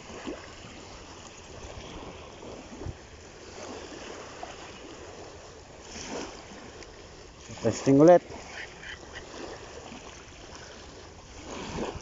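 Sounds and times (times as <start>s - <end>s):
small waves breaking on pebbles: 0.0s - 12.0s.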